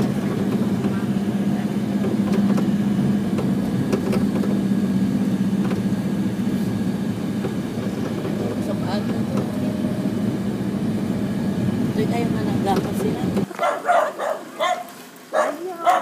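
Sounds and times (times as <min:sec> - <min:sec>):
vehicle engine droning: 0:00.0 - 0:13.5.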